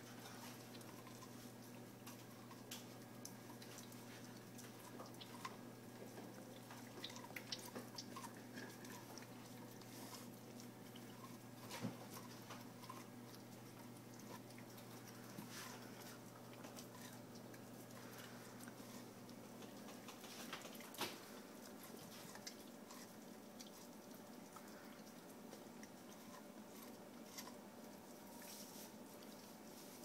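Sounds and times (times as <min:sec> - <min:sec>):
dog gnawing corn cob: 0:00.0 - 0:30.0.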